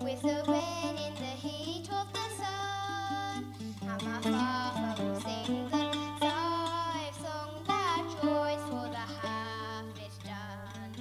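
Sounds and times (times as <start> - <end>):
girl singing a folk song: 0.0 - 11.0
plucked acoustic string instrument: 0.0 - 11.0.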